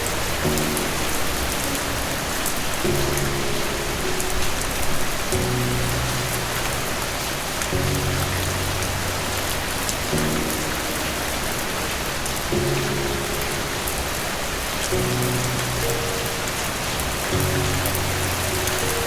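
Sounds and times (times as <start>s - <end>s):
slow soft music chords: 0.0s - 19.0s
steady rain: 0.0s - 19.0s.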